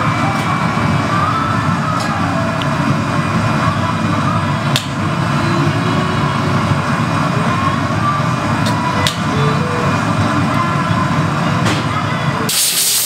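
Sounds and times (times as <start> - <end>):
gas furnace burners roaring: 0.0 - 13.0.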